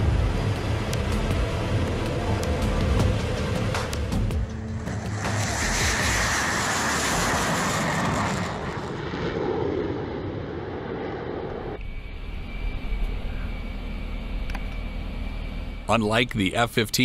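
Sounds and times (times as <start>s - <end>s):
jet flying past: 0.0s - 14.0s
high whine over low rumble: 0.0s - 17.0s.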